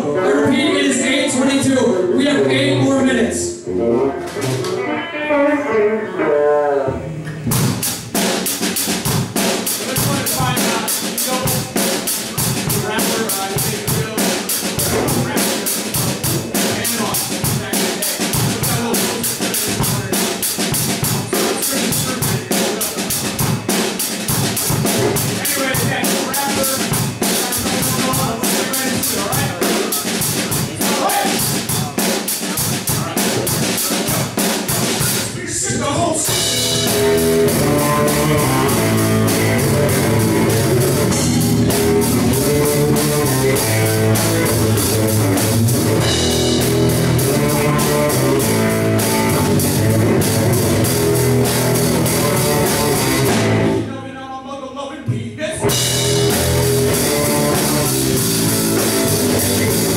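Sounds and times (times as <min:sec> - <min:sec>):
live rock band playing: 0:00.0 - 0:53.9, 0:55.6 - 0:59.9.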